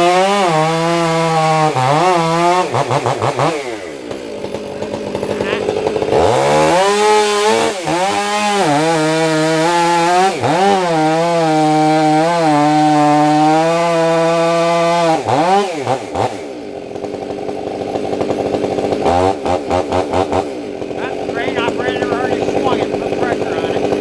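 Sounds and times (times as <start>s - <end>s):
chainsaw revving: 0.0s - 24.0s.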